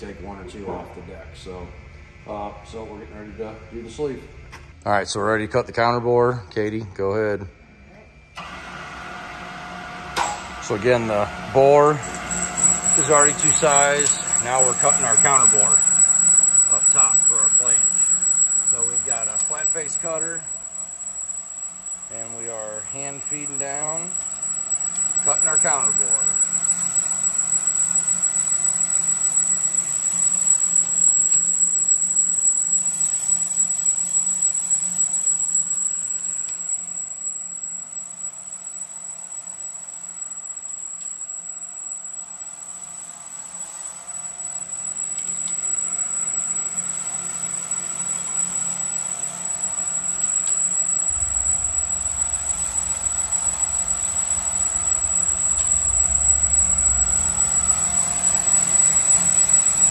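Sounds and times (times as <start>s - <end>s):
boring bar high whine: 0.0s - 59.9s.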